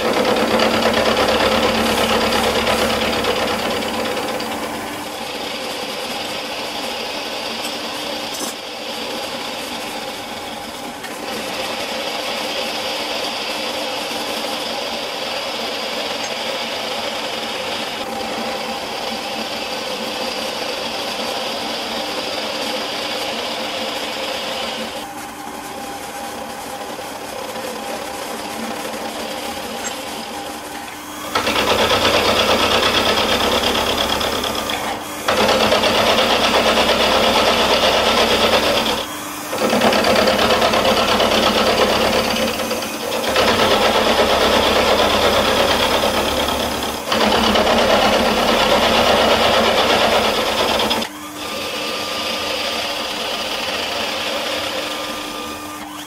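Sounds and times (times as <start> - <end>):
milling machine cutting metal: 0.0 - 56.0.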